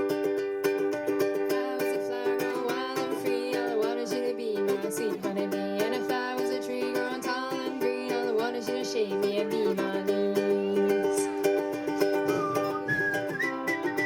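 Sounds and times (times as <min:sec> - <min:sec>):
person singing: 0:00.0 - 0:14.0
ukuleles strumming: 0:00.0 - 0:14.0.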